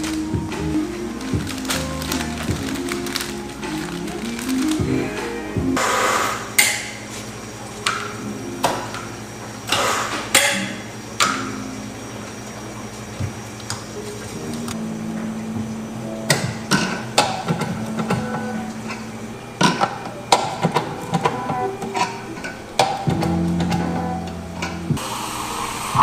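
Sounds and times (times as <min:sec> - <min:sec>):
machine humming low: 0:00.0 - 0:26.0.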